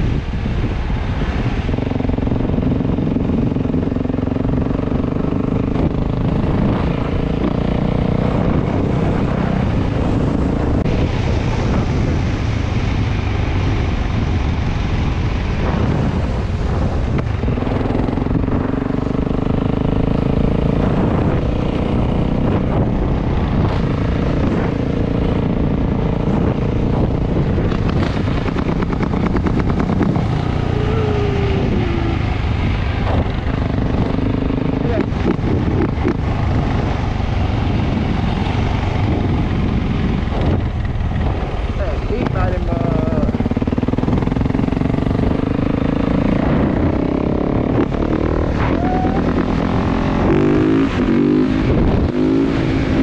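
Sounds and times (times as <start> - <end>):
motorcycle engine running: 0.0 - 53.0
steady rushing noise: 0.0 - 53.0.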